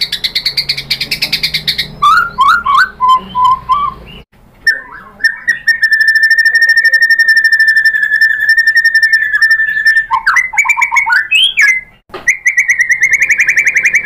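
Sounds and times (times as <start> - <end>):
bird singing trills and whistles: 0.0 - 14.0.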